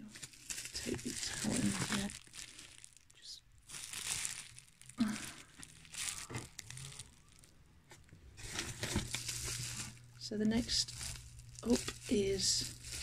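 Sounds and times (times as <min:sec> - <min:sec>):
paper packing rustling: 0:00.0 - 0:03.0, 0:03.7 - 0:13.0.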